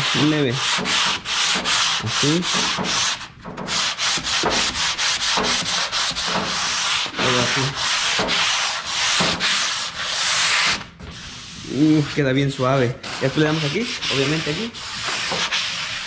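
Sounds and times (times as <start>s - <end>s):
sanding sponge rubbing on wood: 0.0s - 16.0s.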